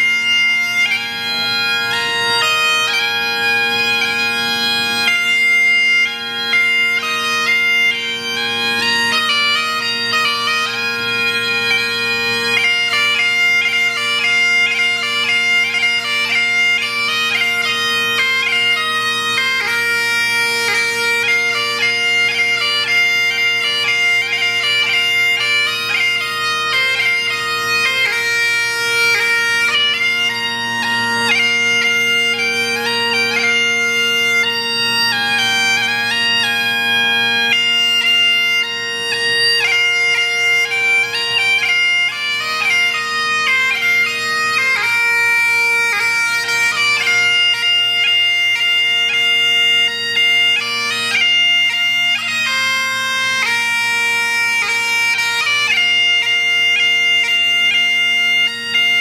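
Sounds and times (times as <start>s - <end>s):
bagpipe drones: 0.0s - 59.0s
bagpipe playing a tune: 0.0s - 59.0s.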